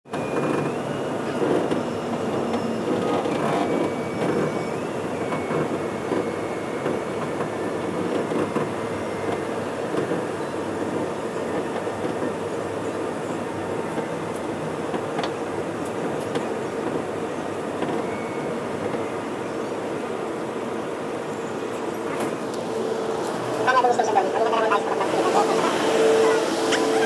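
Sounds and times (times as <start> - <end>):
train wheels rumbling: 0.4 - 27.0.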